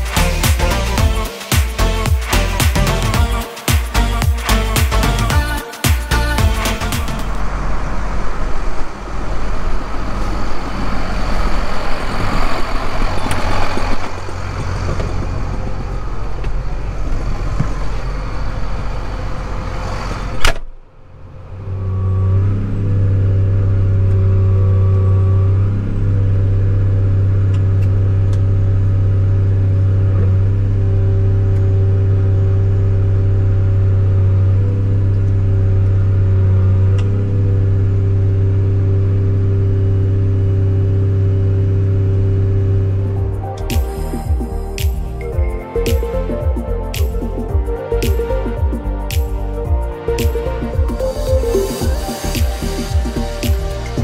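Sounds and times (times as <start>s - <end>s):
tractor diesel engine running: 4.0s - 54.0s.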